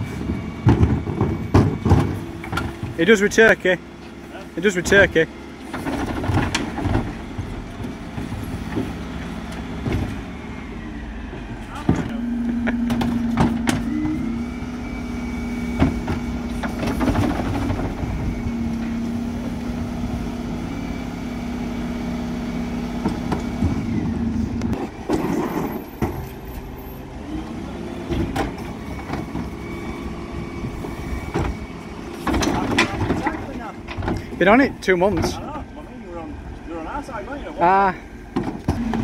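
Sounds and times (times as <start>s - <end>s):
hydraulic hum and whine: 0.0s - 39.0s.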